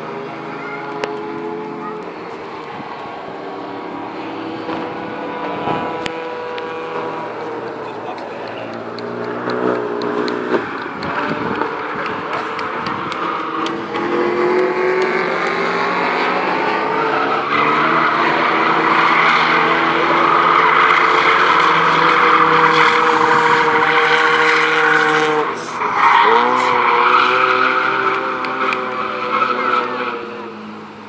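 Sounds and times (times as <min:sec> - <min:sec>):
racing car engine: 0:00.0 - 0:31.0.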